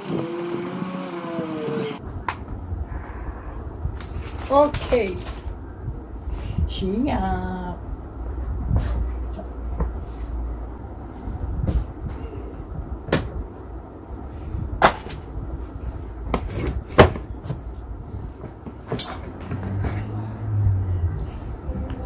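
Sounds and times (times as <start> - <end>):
low steady rumble: 1.9 - 22.0.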